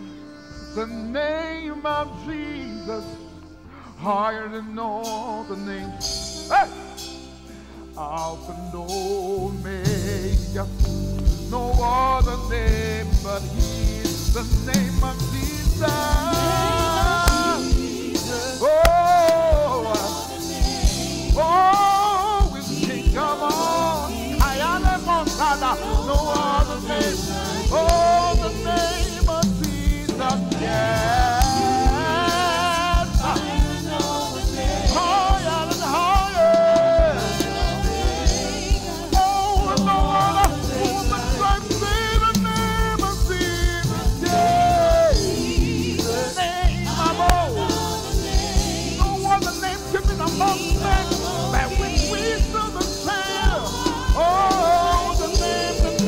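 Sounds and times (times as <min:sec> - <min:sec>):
gospel worship band music: 0:00.0 - 0:56.0.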